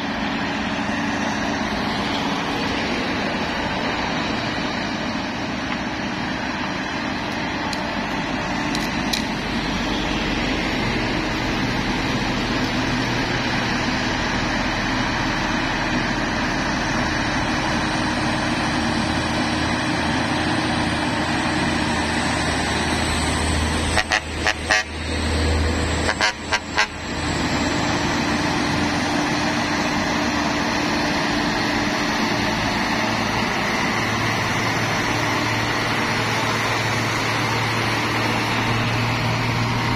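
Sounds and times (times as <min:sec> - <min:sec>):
truck diesel engines labouring: 0:00.0 - 0:39.9.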